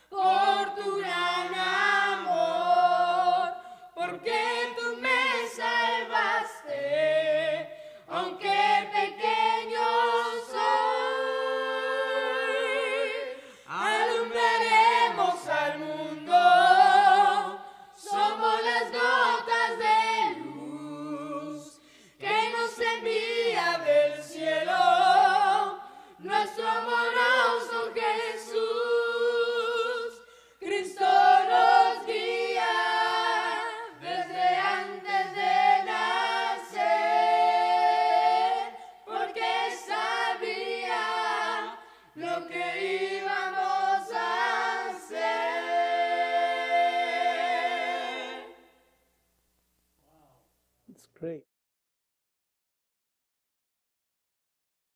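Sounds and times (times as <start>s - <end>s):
boys singing a cappella in harmony: 0.0s - 48.8s.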